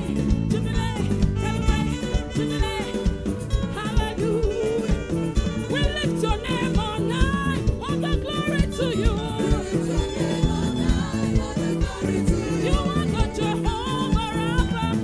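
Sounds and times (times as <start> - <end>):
band with steady drum beat: 0.0 - 15.0
choir singing gospel: 2.5 - 15.0.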